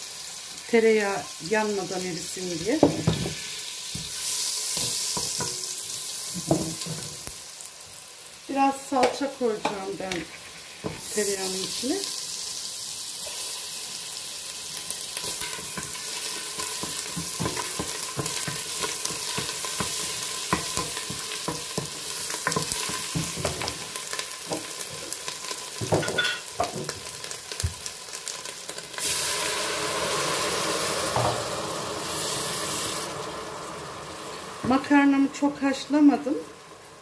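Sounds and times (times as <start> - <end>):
water hissing in hot fat: 0.0 - 8.6, 10.0 - 26.0, 26.9 - 34.6
tomato paste sizzling in fat: 0.0 - 37.0.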